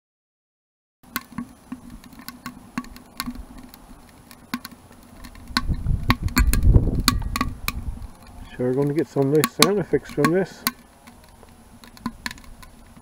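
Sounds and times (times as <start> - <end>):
wood fire crackling: 1.0 - 13.0.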